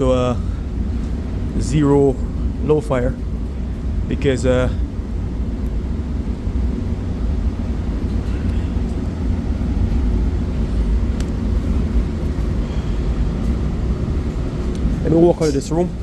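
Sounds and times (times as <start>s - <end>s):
gas furnace rumbling: 0.0s - 16.0s.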